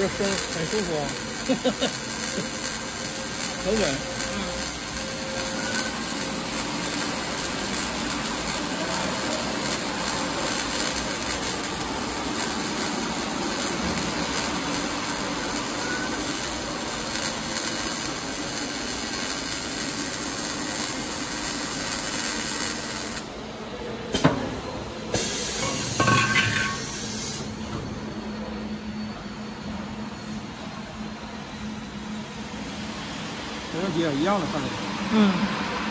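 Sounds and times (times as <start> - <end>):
welding arc running: 0.0 - 27.7, 30.2 - 35.9.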